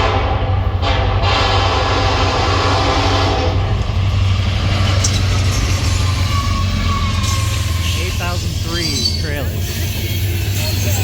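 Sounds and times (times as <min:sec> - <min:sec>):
locomotive air horn: 0:00.0 - 0:03.9, 0:05.7 - 0:11.0
train passing rumble: 0:00.0 - 0:11.0.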